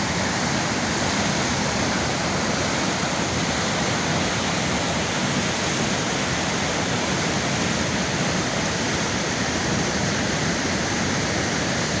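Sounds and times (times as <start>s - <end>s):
water rushing over rock: 0.0s - 12.0s.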